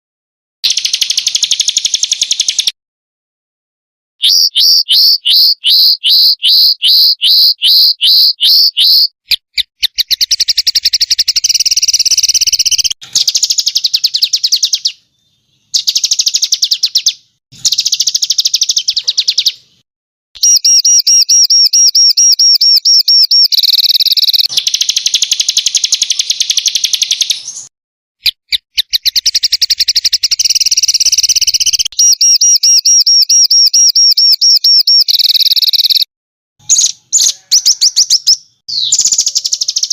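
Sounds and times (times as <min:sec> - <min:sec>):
small birds singing rapid trills: 0:00.6 - 0:02.8, 0:04.2 - 0:19.8, 0:20.4 - 0:39.9.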